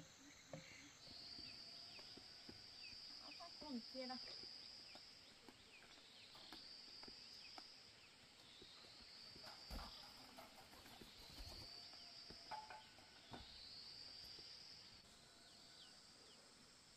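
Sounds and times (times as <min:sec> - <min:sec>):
insects trilling: 0:00.0 - 0:16.9.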